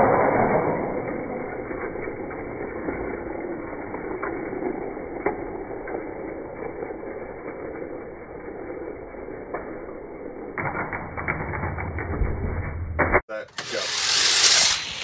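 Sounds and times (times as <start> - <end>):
toy cars rolling down track: 0.0 - 12.1, 13.5 - 15.0.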